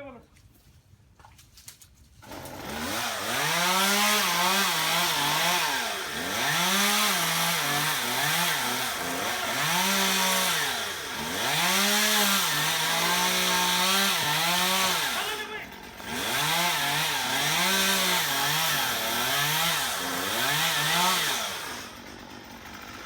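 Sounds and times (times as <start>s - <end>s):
chainsaw cutting branch: 2.2s - 23.0s.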